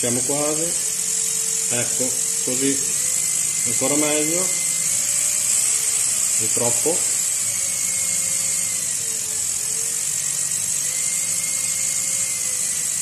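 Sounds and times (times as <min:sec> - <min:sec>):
angle grinder motor whine: 0:00.0 - 0:13.0.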